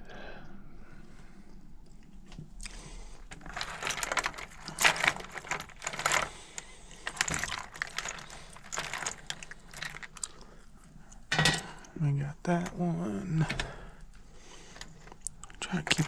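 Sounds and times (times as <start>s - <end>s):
wires and connectors rattling: 1.9s - 16.0s.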